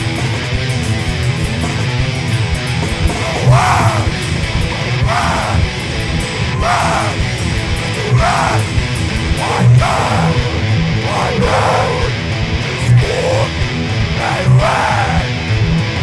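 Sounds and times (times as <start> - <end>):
bass and drums: 0.0 - 16.0
distorted electric guitar: 0.0 - 16.0.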